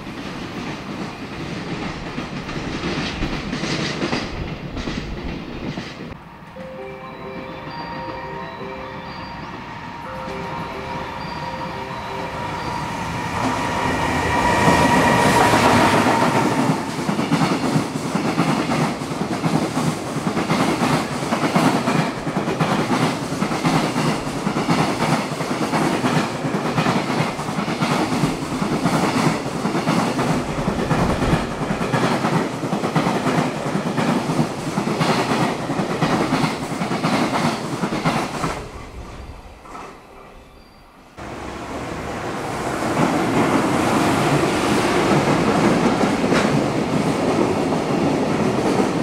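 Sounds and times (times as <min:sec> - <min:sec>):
electric locomotive whine: 0:04.0 - 0:49.0.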